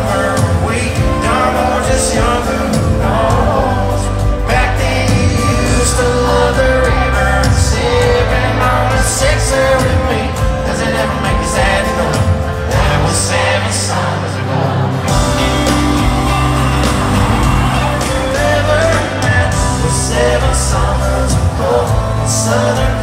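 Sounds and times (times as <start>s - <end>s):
live country band: 0.0s - 23.0s
man singing lead vocal: 0.0s - 23.0s.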